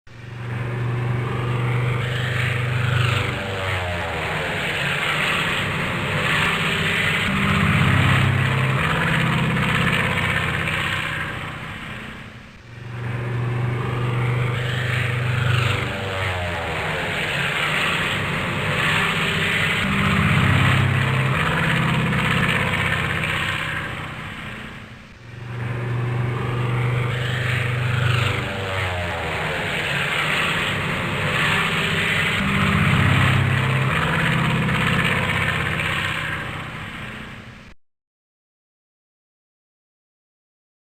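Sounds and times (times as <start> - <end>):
propeller plane flying past: 0.1 - 37.7.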